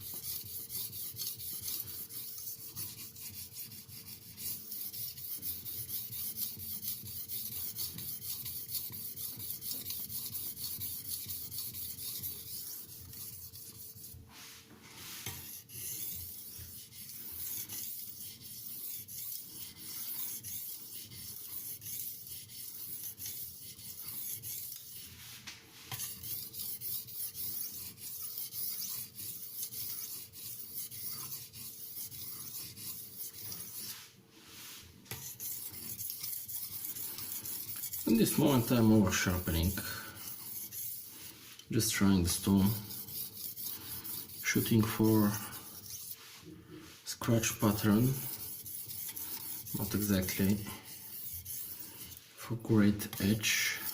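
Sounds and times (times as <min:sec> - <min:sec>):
knife rasping on whetstone: 0:00.0 - 0:53.9.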